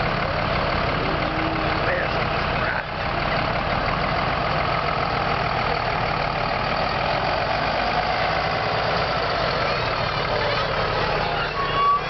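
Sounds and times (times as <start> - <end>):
fire truck engines idling: 0.0 - 12.0.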